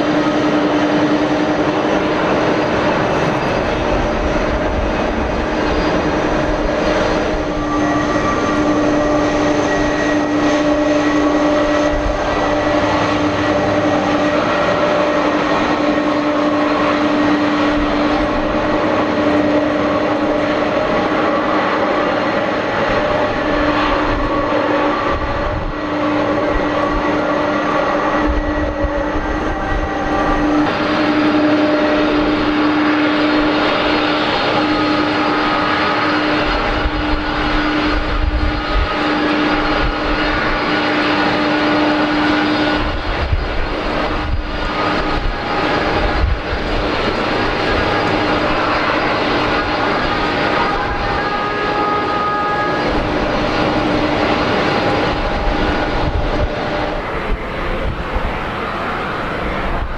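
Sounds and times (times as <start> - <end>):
jet engines whining: 0.0 - 59.9
wind rumbling on microphone: 0.0 - 59.9.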